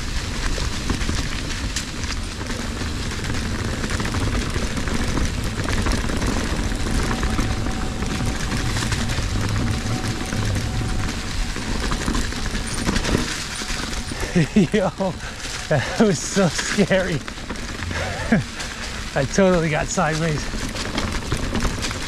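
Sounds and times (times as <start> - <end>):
wind rushing over microphone: 0.0 - 20.8
bike rattling over rough ground: 0.0 - 22.0.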